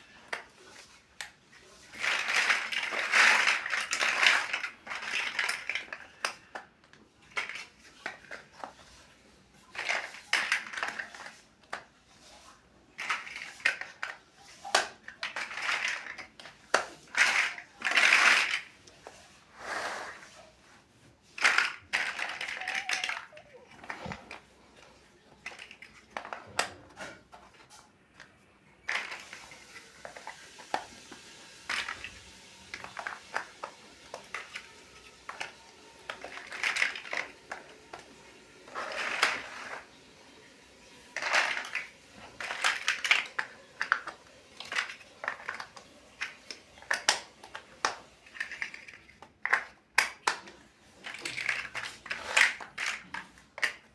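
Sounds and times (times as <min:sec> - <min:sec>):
plastic bricks clicking and clattering: 0:00.0 - 0:19.2, 0:21.3 - 0:53.9.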